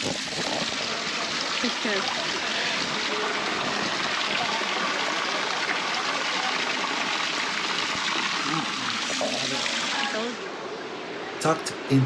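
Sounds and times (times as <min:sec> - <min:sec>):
water rushing in a stream: 0:00.0 - 0:11.2
faint voices: 0:00.0 - 0:12.0.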